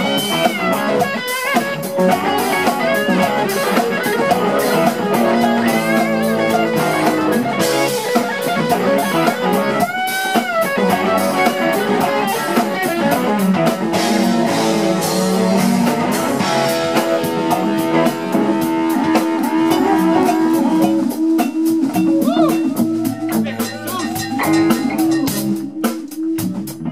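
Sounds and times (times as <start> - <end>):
bass: 0.0 - 26.9
drum groove: 0.0 - 26.9
electric guitar: 0.0 - 26.9
percussion: 0.0 - 26.9.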